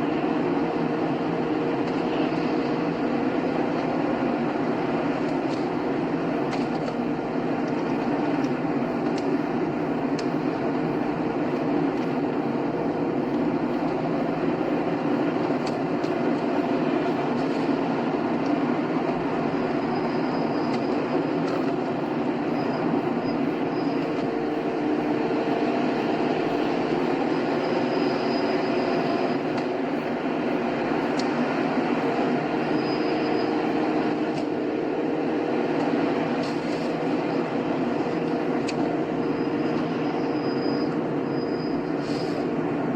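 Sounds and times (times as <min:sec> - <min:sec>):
car engine hum: 0:00.0 - 0:42.9
tyre and road noise: 0:00.0 - 0:42.9.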